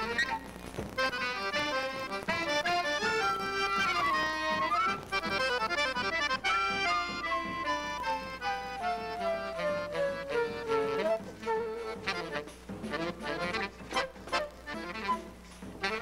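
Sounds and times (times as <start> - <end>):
accordion melody: 0.0 - 16.0
band playing: 0.0 - 16.0.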